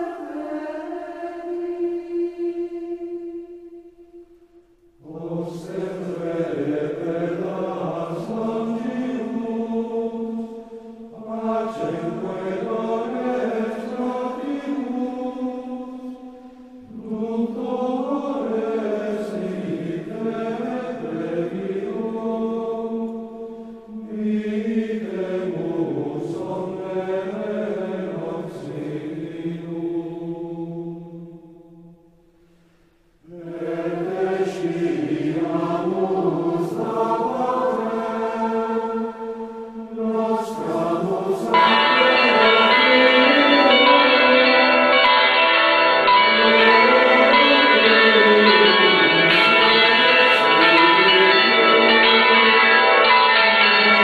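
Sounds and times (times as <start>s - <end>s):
choral chant singing: 0.0s - 32.2s, 33.2s - 54.0s.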